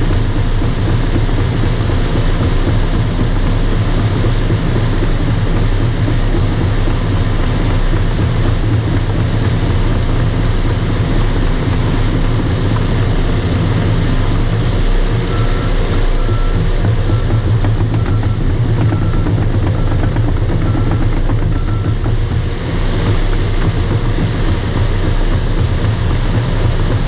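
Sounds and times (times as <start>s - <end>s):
bulldozer engine rumbling: 0.0s - 27.0s.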